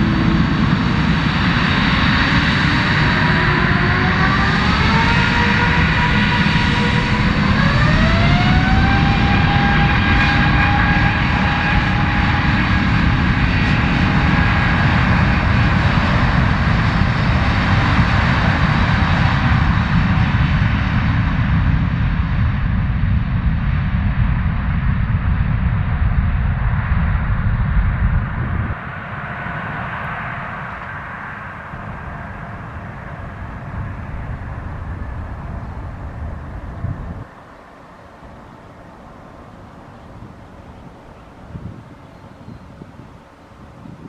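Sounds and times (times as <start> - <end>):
heavy jet engine rumble: 0.0 - 44.0
jet engine whine: 0.0 - 44.0.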